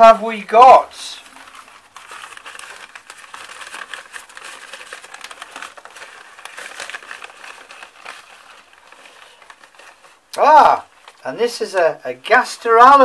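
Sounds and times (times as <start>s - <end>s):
newspaper crinkling and rustling: 0.0s - 13.0s.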